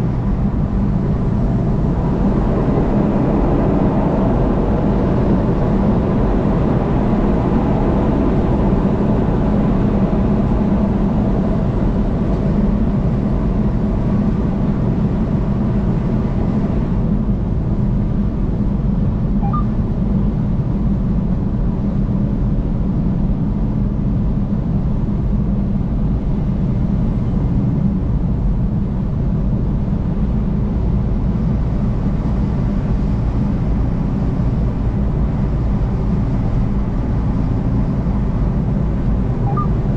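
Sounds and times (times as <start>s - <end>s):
car road noise on highway: 0.0s - 39.9s.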